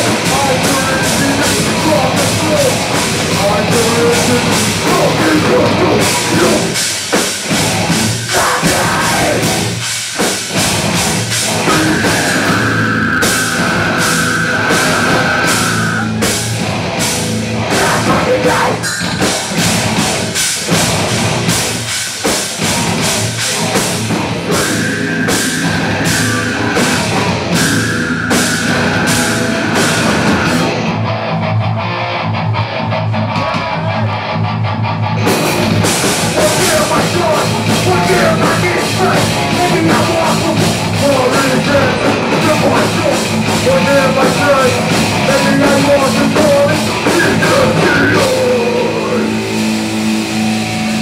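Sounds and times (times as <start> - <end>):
drum kit pounding beat: 0.0 - 34.4, 35.1 - 51.0
distorted electric guitars: 0.0 - 51.0
heavy metal band playing: 0.0 - 51.0.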